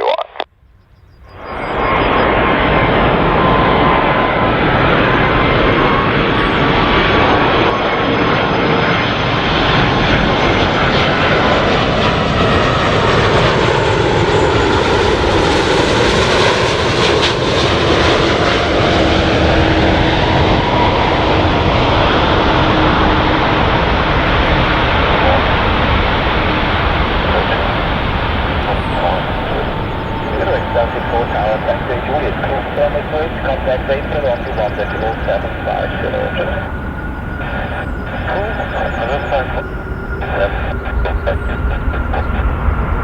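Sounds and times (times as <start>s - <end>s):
jet airliner roar passing: 1.1s - 43.0s.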